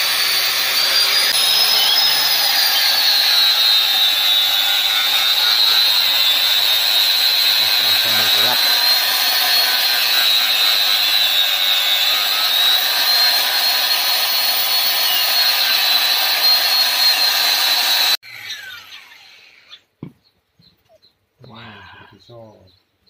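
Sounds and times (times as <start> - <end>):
angle grinder grinding steel: 0.0 - 19.8.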